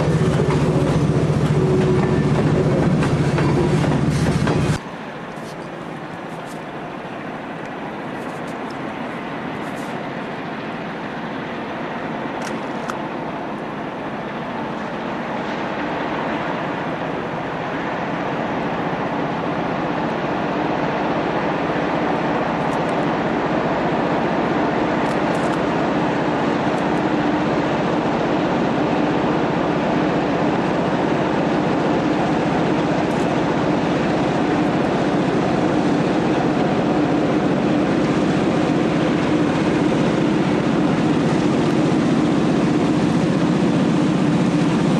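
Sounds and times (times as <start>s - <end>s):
diesel locomotive approaching: 0.0s - 44.9s
low engine hum: 0.0s - 44.9s.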